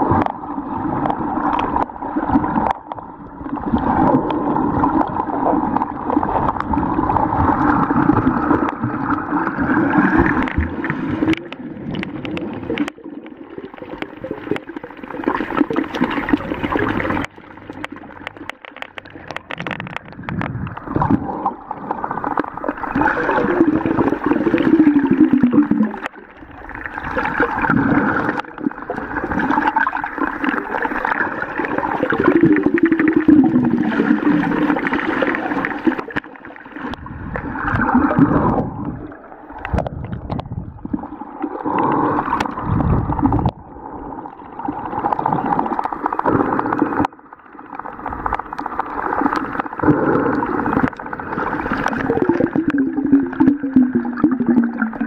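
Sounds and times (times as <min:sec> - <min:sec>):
underwater gurgling and sloshing: 0:00.0 - 0:55.0.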